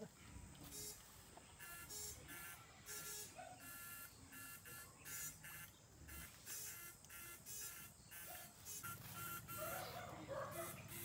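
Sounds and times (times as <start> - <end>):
faint electric buzzing pulses: 0.0 - 11.0.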